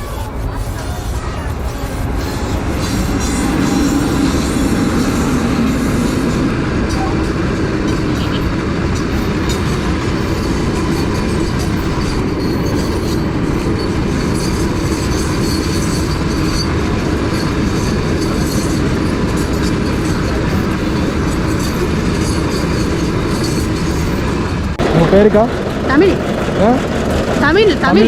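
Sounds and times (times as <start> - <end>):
vehicle rumbling: 0.0 - 28.0.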